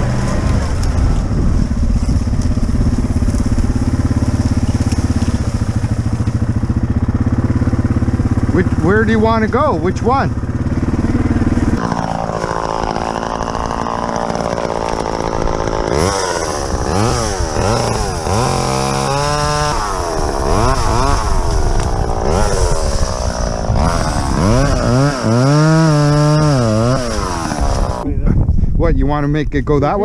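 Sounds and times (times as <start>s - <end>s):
chainsaw revving and cutting: 0.0s - 1.2s, 1.9s - 28.1s
atv engine idling: 0.0s - 25.1s.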